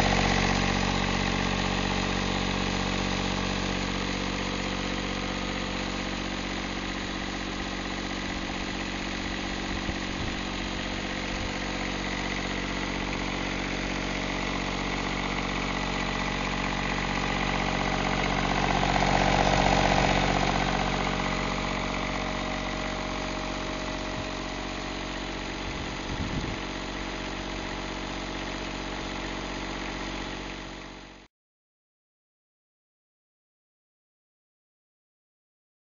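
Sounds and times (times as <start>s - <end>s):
diesel generator running: 0.0s - 31.3s.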